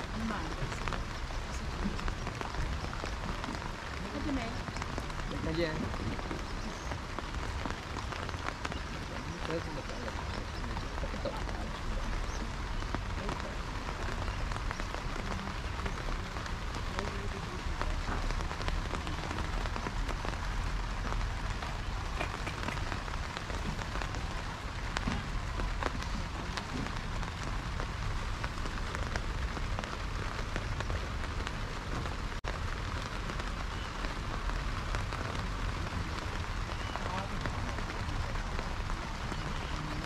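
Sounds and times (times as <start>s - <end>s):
raindrops ticking close by: 0.0s - 40.0s
steady rain falling: 0.0s - 40.0s.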